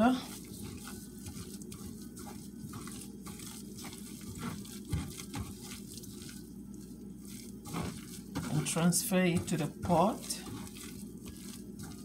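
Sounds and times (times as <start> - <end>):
wet pulp squishing: 0.0 - 12.0.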